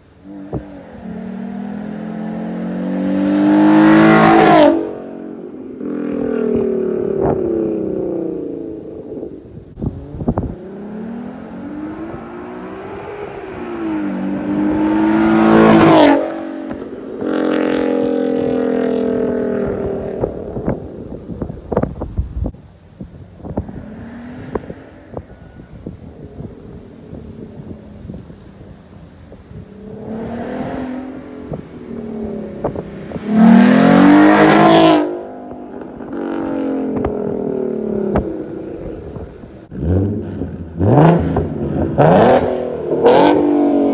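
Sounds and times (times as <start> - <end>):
car engine revving: 0.2 - 21.9, 23.4 - 43.9.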